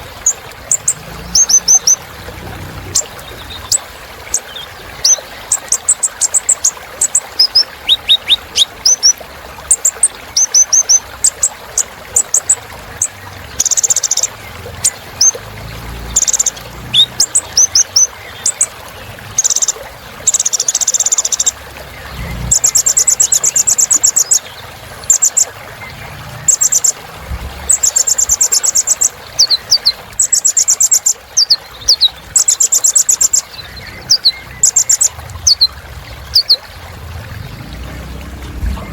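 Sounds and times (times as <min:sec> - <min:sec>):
sunbird singing chirps and trills: 0:00.0 - 0:11.5, 0:12.2 - 0:18.7, 0:19.3 - 0:38.9.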